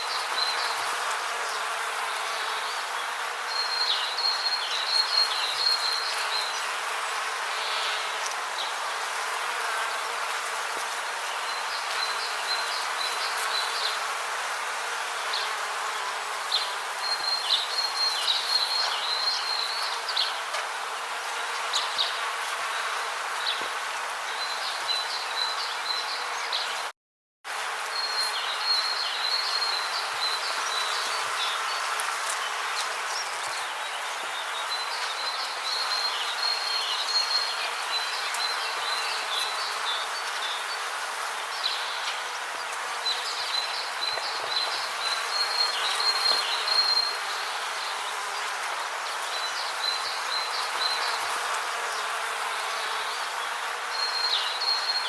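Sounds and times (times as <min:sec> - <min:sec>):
steady insect hiss: 0:00.0 - 0:26.6, 0:27.6 - 0:55.0.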